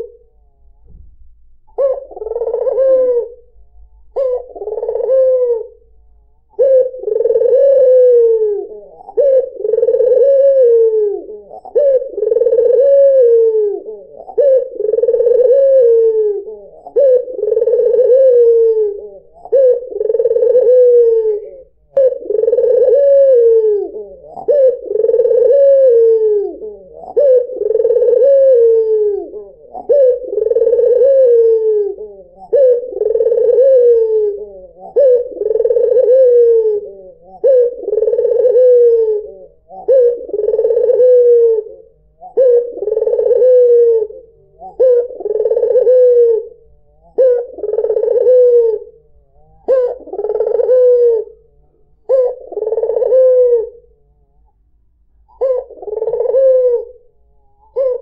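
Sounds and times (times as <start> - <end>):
dove cooing: 0.0 - 0.3, 1.7 - 54.6, 55.2 - 58.0.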